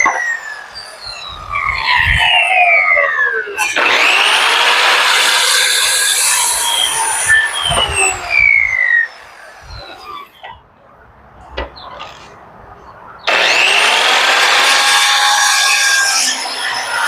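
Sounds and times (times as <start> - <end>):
circular saw cutting wood: 0.0 - 10.5, 13.3 - 17.0.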